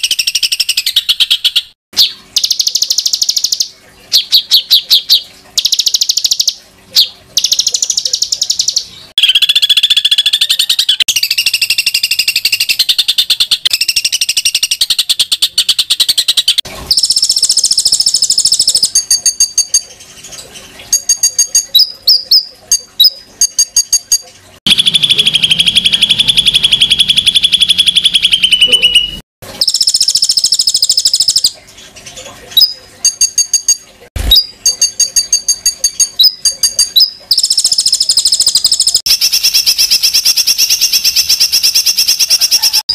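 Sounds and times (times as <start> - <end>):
songbird rattling trills: 0.0 - 42.9.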